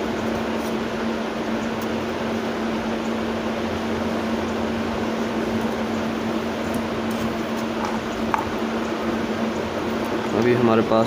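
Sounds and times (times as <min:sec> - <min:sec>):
steady hum with hiss: 0:00.0 - 0:11.0.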